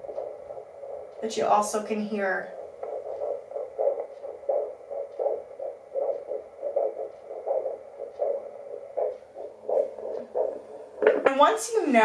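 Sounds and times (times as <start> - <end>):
doppler heartbeat whooshing pulses: 0.0 - 12.0
faster baby heartbeat: 0.0 - 12.0.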